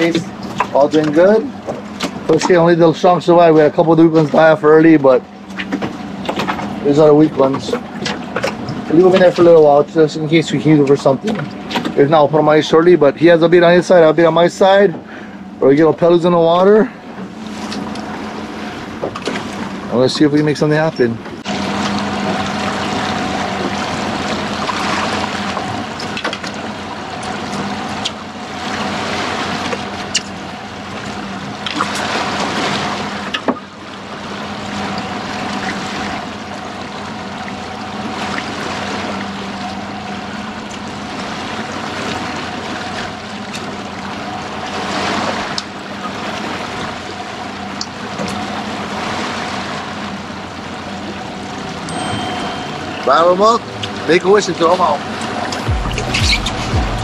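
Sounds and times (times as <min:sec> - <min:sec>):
boat engine humming: 0:00.0 - 0:57.0
sea wash: 0:00.0 - 0:57.0.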